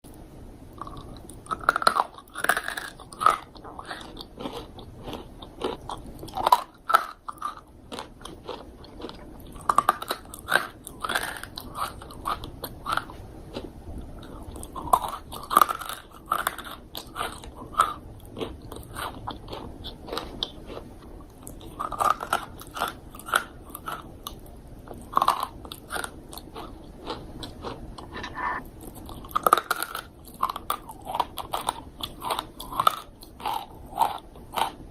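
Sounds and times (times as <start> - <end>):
soft chewing: 0.7 - 34.9
crunching dried fruit: 0.8 - 34.9.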